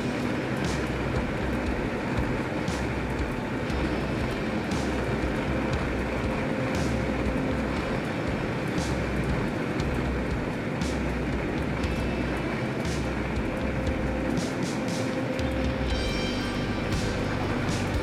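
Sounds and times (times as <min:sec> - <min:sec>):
faint steady hum: 0:00.0 - 0:18.0
train rumbling: 0:00.0 - 0:18.0.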